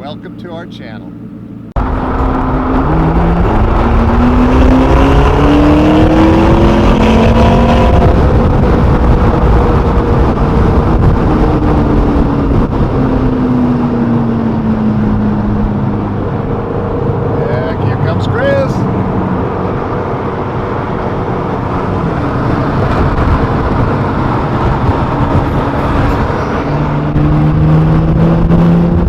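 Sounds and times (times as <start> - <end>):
road and wind rumble: 0.0 - 29.0
sports car engine revving: 1.2 - 29.0.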